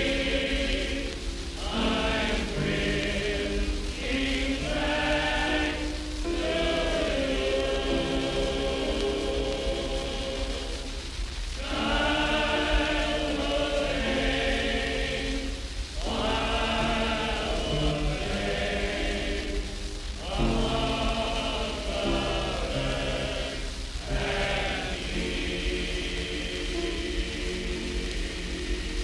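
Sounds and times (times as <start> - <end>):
barbershop quartet singing: 0.0 - 29.0.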